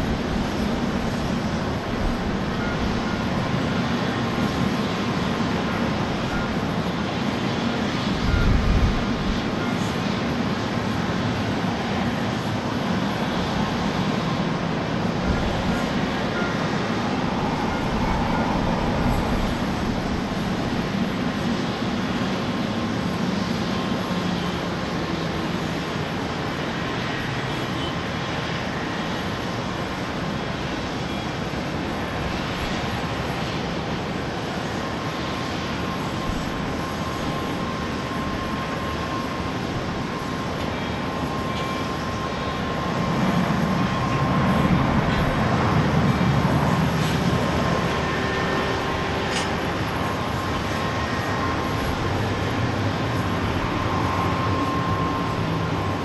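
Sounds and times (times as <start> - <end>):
jet airliner engines whining: 0.0 - 56.0.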